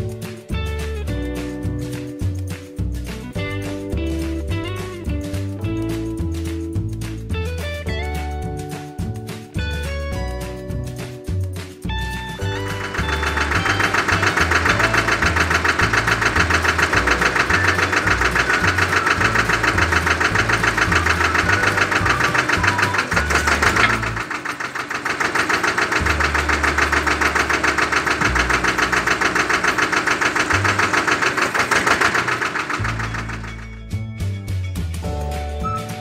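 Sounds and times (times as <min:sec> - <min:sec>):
low bass line: 0:00.0 - 0:24.7, 0:25.4 - 0:36.0
music with fast pulsing beat: 0:00.0 - 0:36.0.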